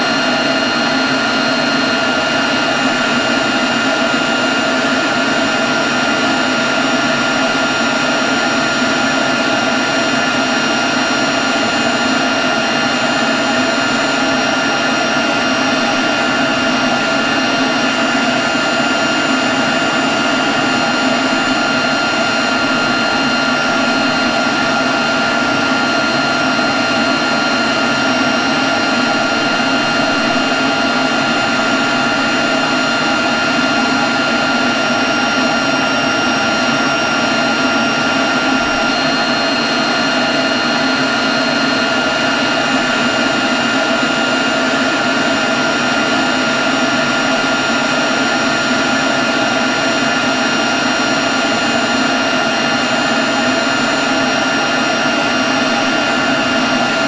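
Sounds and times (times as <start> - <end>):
leaf blower running: 0.0 - 57.0.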